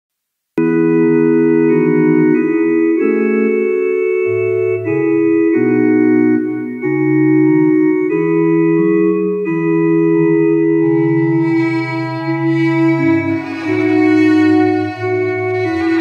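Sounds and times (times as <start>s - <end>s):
slow organ chords on keyboard: 0.6s - 16.0s.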